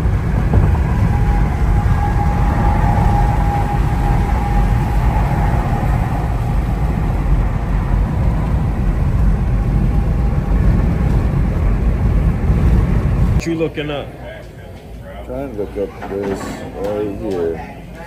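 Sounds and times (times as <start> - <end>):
faint whine: 0.0 - 16.0.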